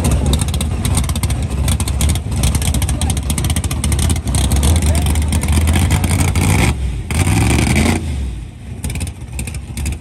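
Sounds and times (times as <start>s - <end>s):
drag car engine running: 0.0s - 10.0s.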